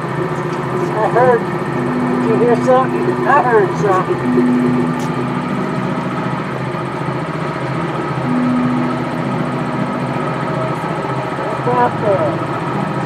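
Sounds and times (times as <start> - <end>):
low drone: 0.0 - 13.0
ride train engine rumbling: 0.0 - 13.0.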